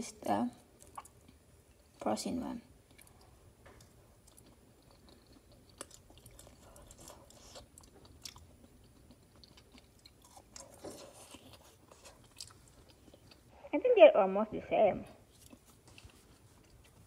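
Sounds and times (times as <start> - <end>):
faint chewing of crisp fry: 0.5 - 2.1, 2.7 - 13.7, 15.2 - 17.0.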